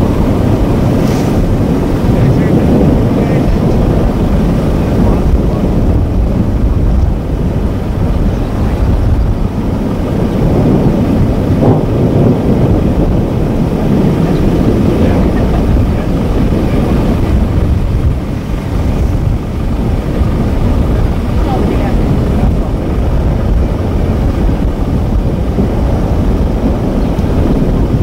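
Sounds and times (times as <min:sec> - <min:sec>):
low rumbling noise: 0:00.0 - 0:28.0.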